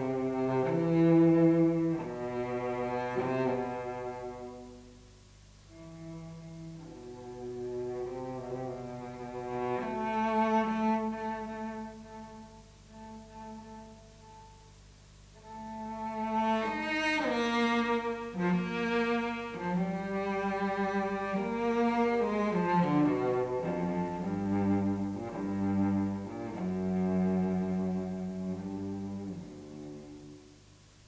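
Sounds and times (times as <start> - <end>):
cello played with bow: 0.0 - 31.0.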